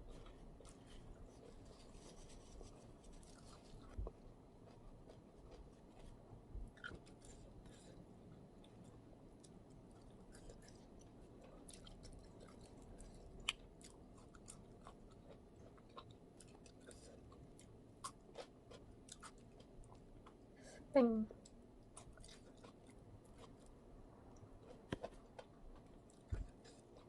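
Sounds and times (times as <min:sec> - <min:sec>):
chewing food: 0:00.0 - 0:20.5, 0:21.4 - 0:27.0.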